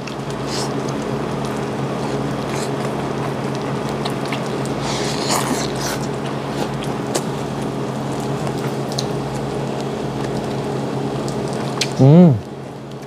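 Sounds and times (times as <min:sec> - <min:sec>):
man chewing food: 0:00.0 - 0:13.0
steady low hum: 0:00.0 - 0:13.0.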